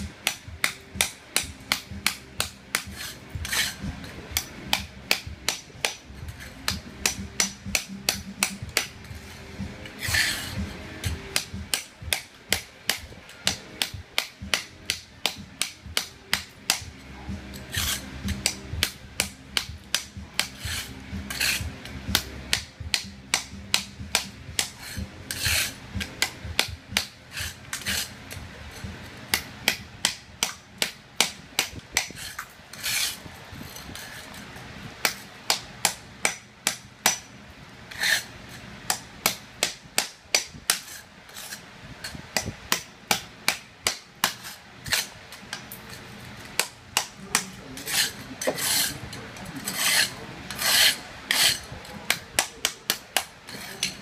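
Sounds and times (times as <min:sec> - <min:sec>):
hammer striking chisel: 0:00.0 - 0:28.4, 0:29.3 - 0:33.2, 0:35.0 - 0:37.3, 0:38.9 - 0:41.6, 0:42.3 - 0:45.8, 0:46.5 - 0:49.0, 0:49.6 - 0:54.0.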